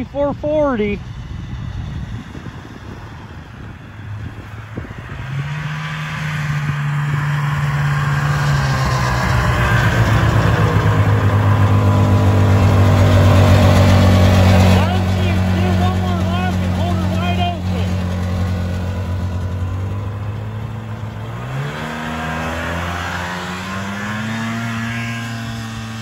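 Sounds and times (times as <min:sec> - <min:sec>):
snowmobile two-stroke engine running: 0:00.0 - 0:26.0.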